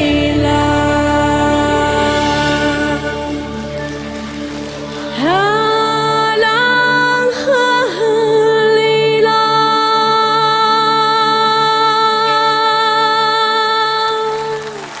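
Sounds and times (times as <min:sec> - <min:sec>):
steady musical accompaniment: 0:00.0 - 0:15.0.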